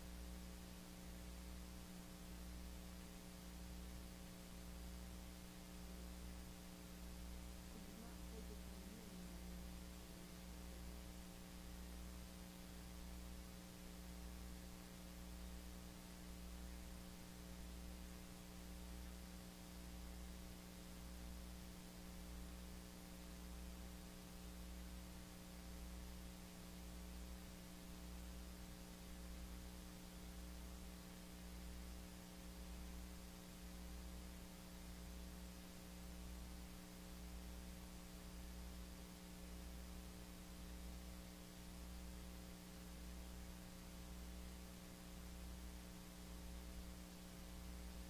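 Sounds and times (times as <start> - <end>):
electrical hum: 0.0 - 48.0
faint hiss: 0.0 - 48.0.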